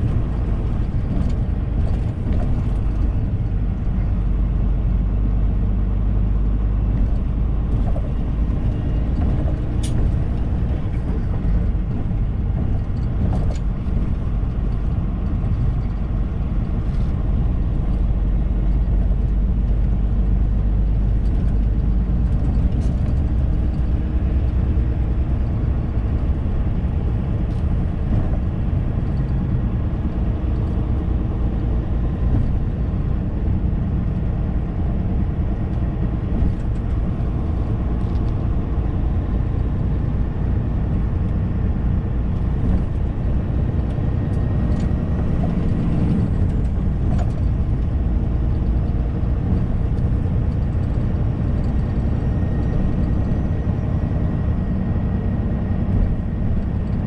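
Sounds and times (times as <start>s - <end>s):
road noise: 0.0s - 57.0s
truck diesel engine drone: 0.0s - 57.0s.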